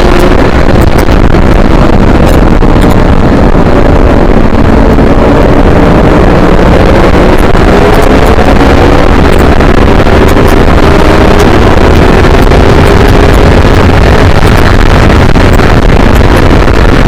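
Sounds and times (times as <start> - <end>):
motorcycle engine running hard: 0.0 - 17.0
wind rush on microphone: 0.0 - 17.0.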